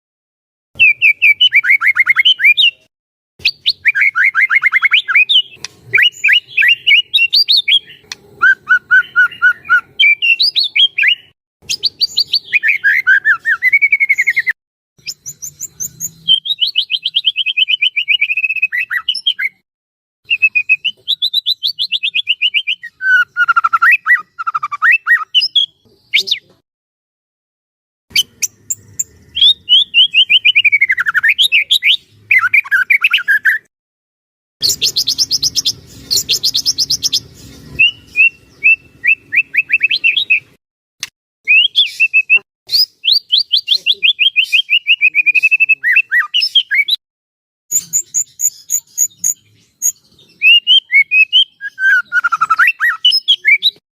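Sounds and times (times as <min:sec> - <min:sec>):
bird singing whistled trills: 0:00.8 - 0:19.6, 0:20.3 - 0:26.5, 0:28.1 - 0:33.7, 0:34.6 - 0:40.6, 0:41.5 - 0:47.0, 0:47.7 - 0:53.8.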